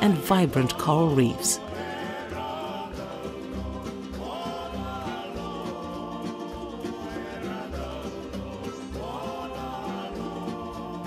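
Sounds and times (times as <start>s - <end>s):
person singing: 0.0s - 11.0s
song with plucked strings: 0.0s - 11.0s.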